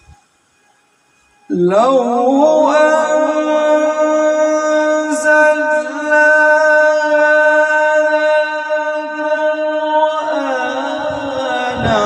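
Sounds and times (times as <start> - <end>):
man chanting melodic recitation: 1.5 - 12.0.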